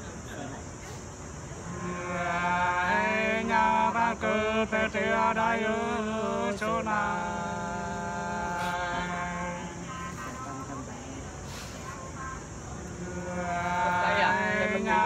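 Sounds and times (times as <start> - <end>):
men singing unaccompanied: 1.6 - 15.0.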